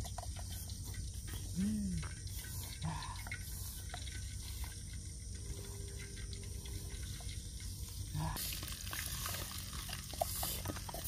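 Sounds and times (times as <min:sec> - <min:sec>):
low background hum: 0:00.0 - 0:11.0
water dripping and trickling: 0:00.0 - 0:11.0.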